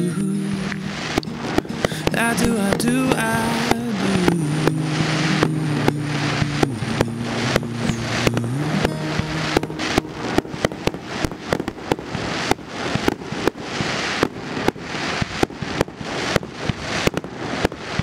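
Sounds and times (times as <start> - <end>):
fireworks crackling hiss: 0.6 - 18.0
fireworks bangs: 0.8 - 18.0.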